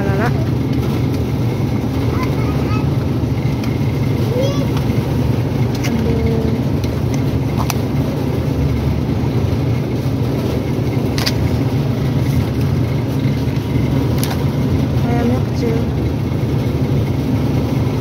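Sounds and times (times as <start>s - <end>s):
supermarket background rumble: 0.0s - 18.0s.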